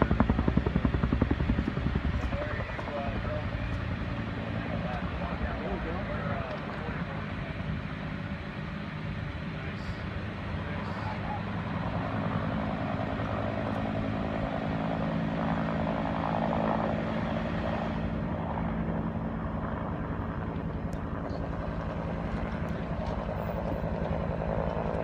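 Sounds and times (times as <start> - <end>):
helicopter rotor drone: 0.0 - 25.0.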